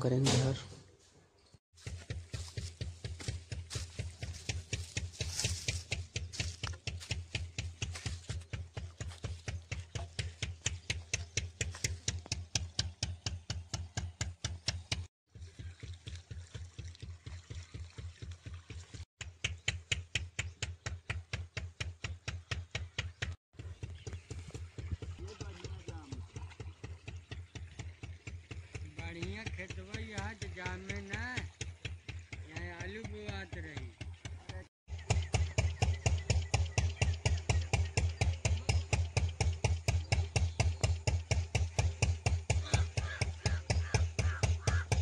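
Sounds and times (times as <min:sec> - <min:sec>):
engine chugging: 0:01.8 - 0:45.0.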